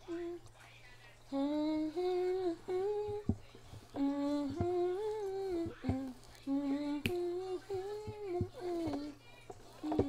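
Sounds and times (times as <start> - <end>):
woman humming: 1.3 - 9.2, 9.8 - 10.0.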